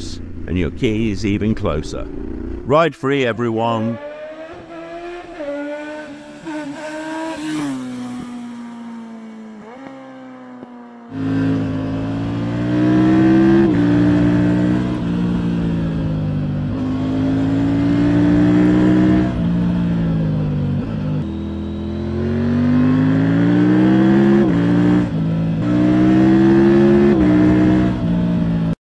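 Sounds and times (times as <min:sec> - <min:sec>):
motorcycle engine accelerating: 0:00.0 - 0:02.9, 0:03.8 - 0:28.8.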